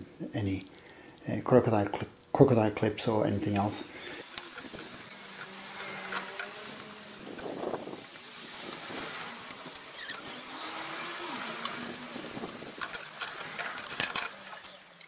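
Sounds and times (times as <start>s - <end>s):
outdoor background noise: 0.0s - 15.0s
clicks and rustles of wires: 0.4s - 15.0s.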